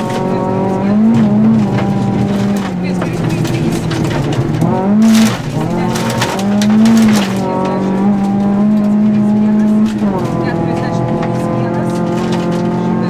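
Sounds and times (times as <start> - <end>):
car engine revving: 0.0 - 13.0
gravel noise from tyres: 0.0 - 13.0.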